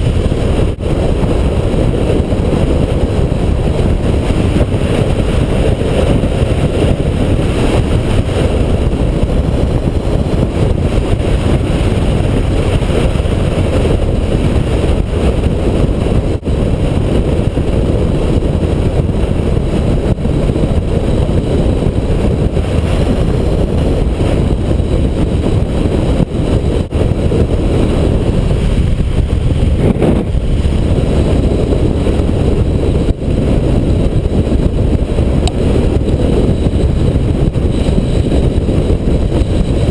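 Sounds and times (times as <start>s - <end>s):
motorcycle road and engine noise: 0.0s - 39.9s
wind rush on microphone: 0.0s - 39.9s.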